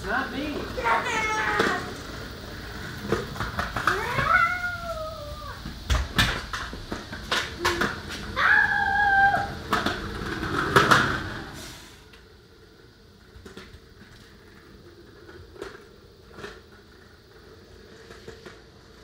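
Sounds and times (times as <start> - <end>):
trike wheels rattling on concrete: 0.0 - 11.6, 12.2 - 19.0.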